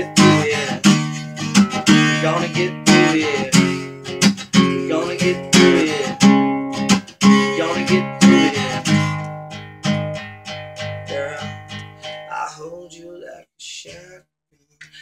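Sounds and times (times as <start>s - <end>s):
acoustic guitar strumming: 0.0s - 13.4s.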